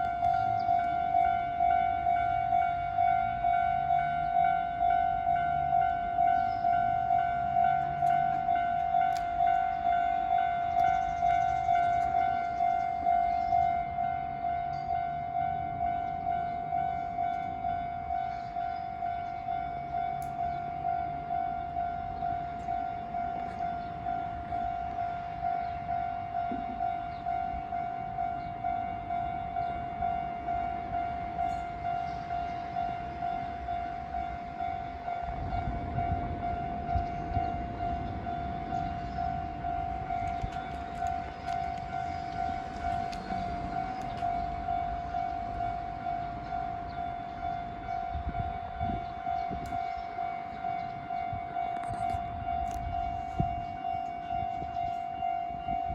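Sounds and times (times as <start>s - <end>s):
level crossing warning bell: 0.0s - 55.9s
train rumbling past: 0.0s - 55.9s.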